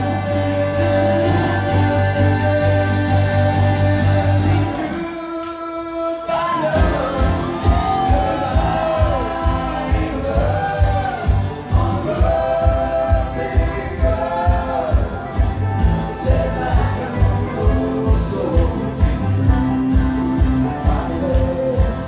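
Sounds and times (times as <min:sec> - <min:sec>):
bluegrass band playing: 0:00.0 - 0:05.2, 0:06.3 - 0:22.0
strummed acoustic guitar: 0:00.0 - 0:05.2, 0:06.3 - 0:22.0
man singing: 0:00.0 - 0:22.0.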